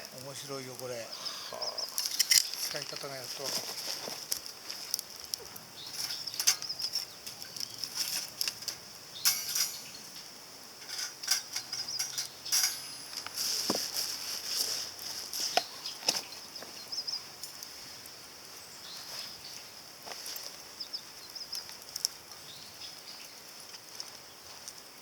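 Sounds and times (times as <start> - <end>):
small fire crackling and popping: 0.0 - 25.0
steady high hiss: 0.0 - 25.0.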